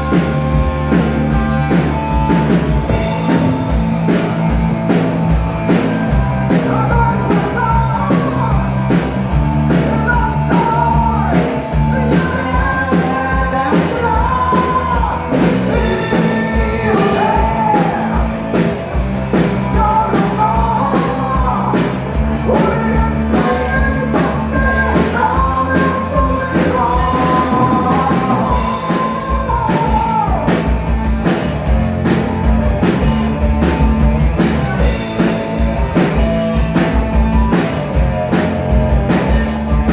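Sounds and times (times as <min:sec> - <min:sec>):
drums and bass beat: 0:00.0 - 0:39.9
live rock band playing: 0:00.0 - 0:39.9.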